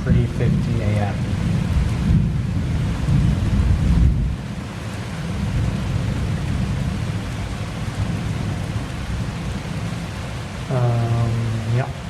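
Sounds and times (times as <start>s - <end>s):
low thunder rumble: 0.0s - 12.0s
steady rain falling: 0.0s - 12.0s.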